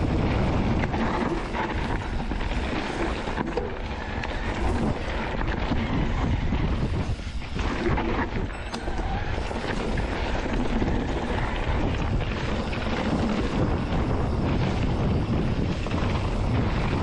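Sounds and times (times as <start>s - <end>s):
mountain bike rumbling on rough trail: 0.0s - 17.0s
wind buffeting microphone: 0.0s - 17.0s.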